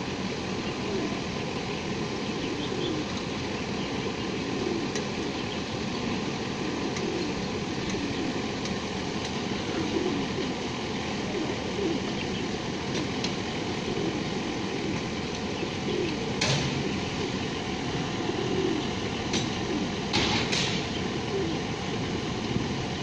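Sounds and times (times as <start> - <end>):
pigeons cooing: 0.0 - 23.0
steady background noise: 0.0 - 23.0.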